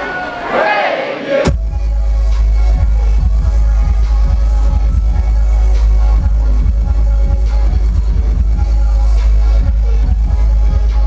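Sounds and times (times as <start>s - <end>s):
electronic dance music: 1.3s - 11.0s
pounding bass beat: 1.4s - 11.0s.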